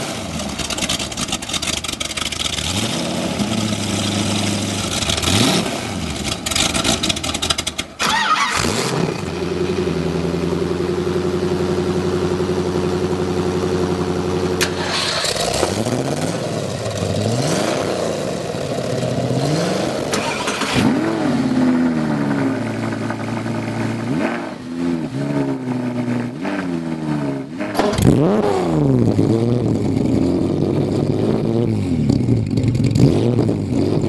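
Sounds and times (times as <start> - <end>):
sports car engine revving: 2.4 - 7.6, 8.2 - 34.0.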